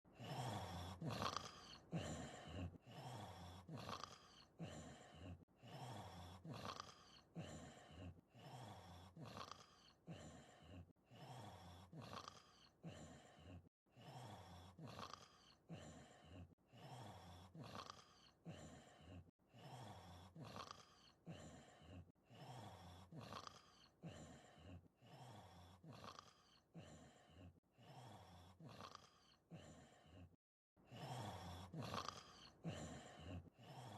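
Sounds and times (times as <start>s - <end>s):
cartoon snoring with whistle: 0.2s - 33.9s.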